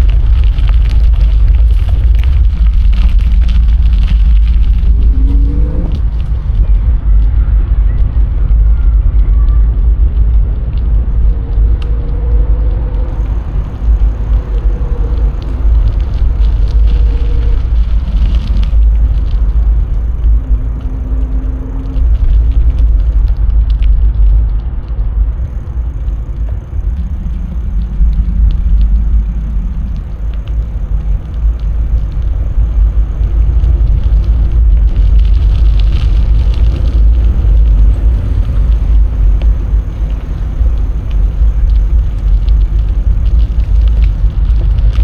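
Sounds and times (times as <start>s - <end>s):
small clicks and rattles: 0.0s - 7.3s, 9.9s - 24.6s, 25.2s - 45.0s
bicycle rolling noise: 0.0s - 45.0s
wind rumble on microphone: 0.0s - 45.0s.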